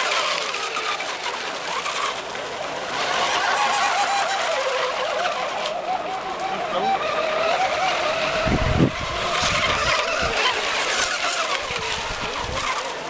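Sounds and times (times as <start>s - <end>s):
model boat motor whine: 0.0s - 13.0s.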